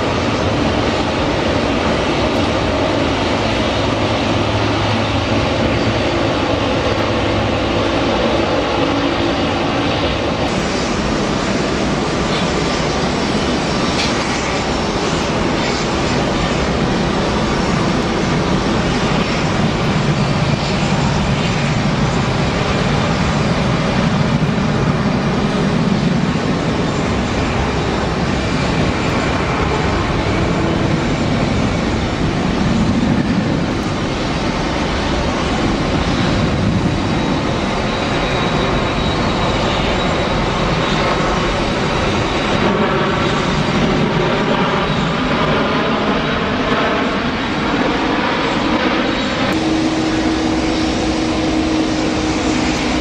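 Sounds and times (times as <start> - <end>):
jet engine rumble of landing plane: 0.0 - 53.0.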